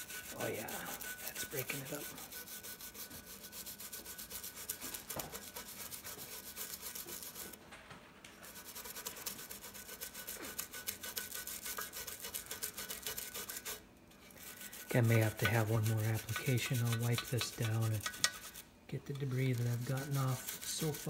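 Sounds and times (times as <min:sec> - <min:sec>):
bristle brush scrubbing: 0:00.0 - 0:07.6, 0:08.4 - 0:21.0.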